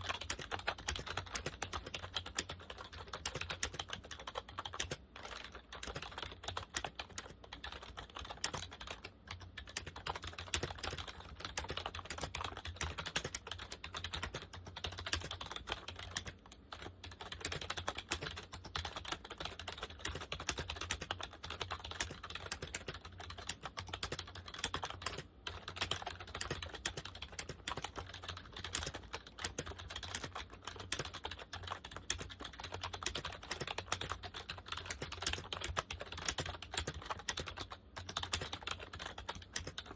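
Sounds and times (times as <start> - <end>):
soft keyboard keystroke clicks: 0.0 - 39.9.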